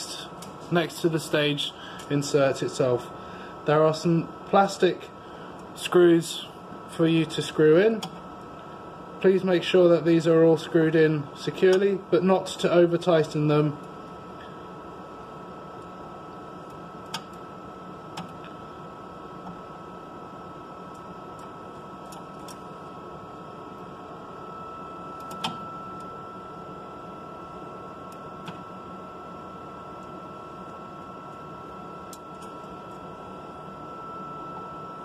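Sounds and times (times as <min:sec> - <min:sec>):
equipment hum with high tone: 0:00.0 - 0:35.0.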